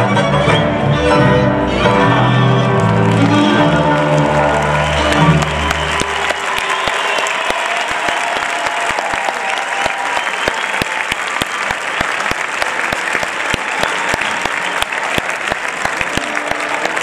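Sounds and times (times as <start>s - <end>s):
audience applauding: 2.5s - 17.0s.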